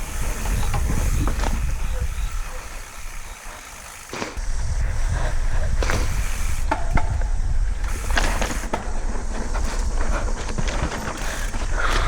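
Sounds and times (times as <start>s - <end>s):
wind rumbling on microphone: 0.0s - 3.4s, 4.4s - 12.0s
bike knocking and rattling: 0.0s - 12.0s.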